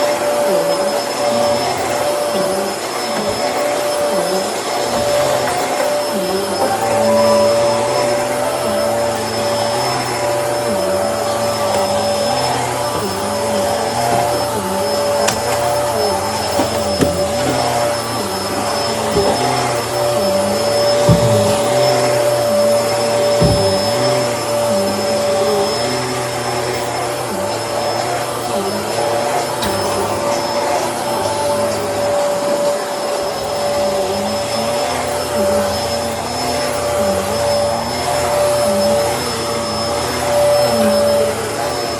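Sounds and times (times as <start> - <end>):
vacuum cleaner whining: 0.0 - 41.9.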